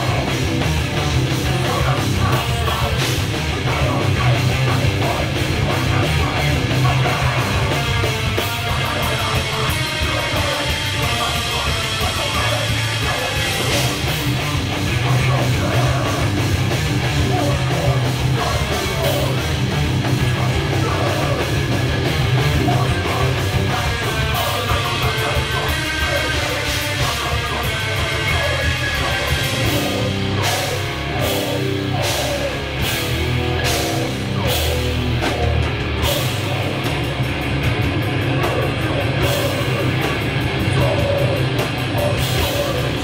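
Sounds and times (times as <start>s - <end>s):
heavy metal band playing: 0.0s - 43.0s.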